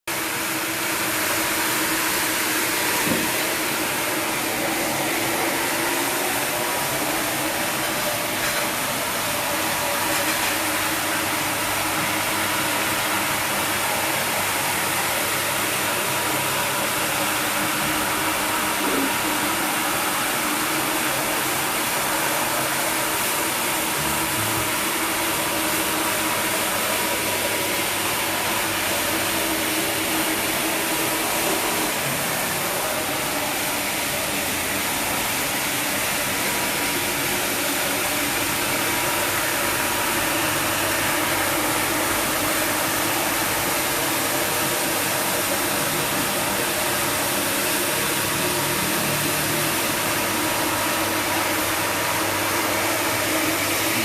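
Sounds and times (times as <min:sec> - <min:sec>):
floor polisher hiss: 0:00.1 - 0:54.0.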